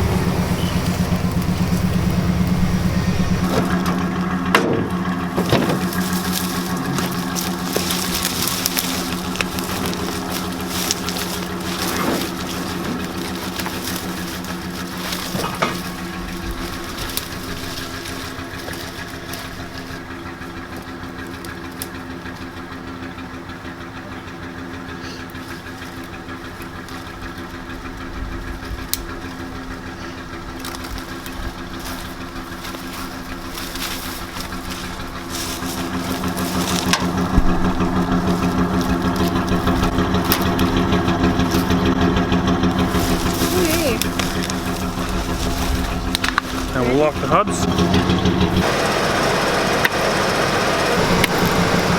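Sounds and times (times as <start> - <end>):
pickup truck engine running: 0.0 - 51.9.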